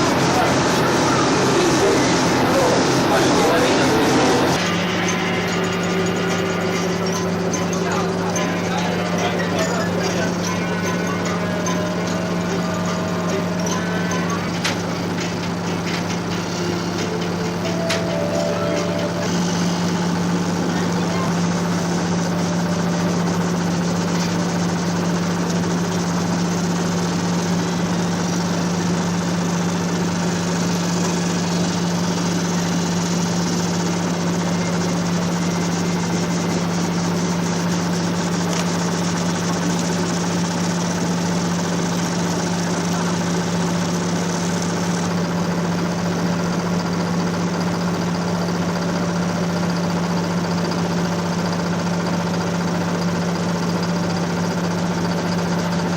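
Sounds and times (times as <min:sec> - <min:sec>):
ship diesel engine drone: 0:00.0 - 0:55.9.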